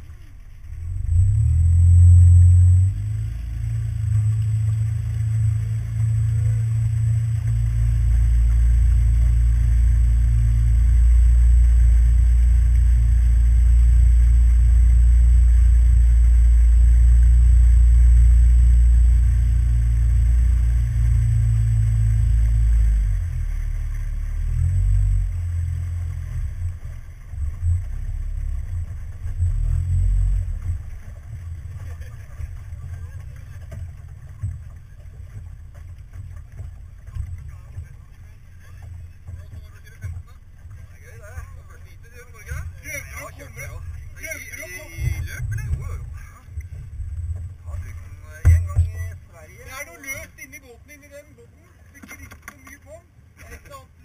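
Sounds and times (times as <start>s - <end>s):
model boat engine rumbling: 0.0s - 54.0s.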